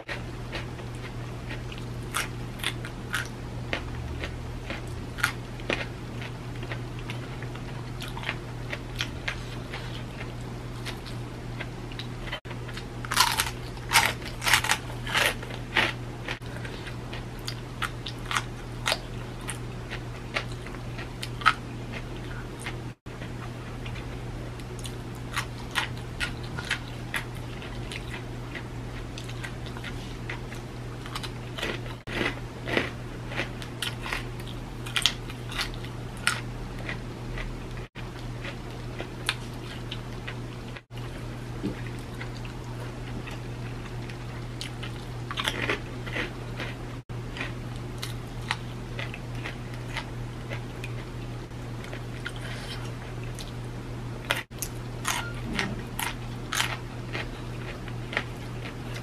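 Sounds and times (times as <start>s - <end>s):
steady low hum: 0.0s - 59.0s
crunching of crackers and beans: 0.1s - 59.0s.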